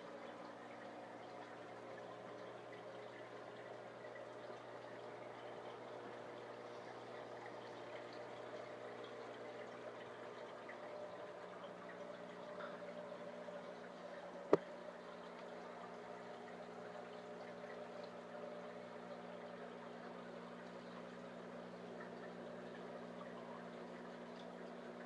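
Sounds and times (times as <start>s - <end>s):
aquarium filter humming: 0.0s - 25.0s
faint moving water: 0.0s - 25.0s.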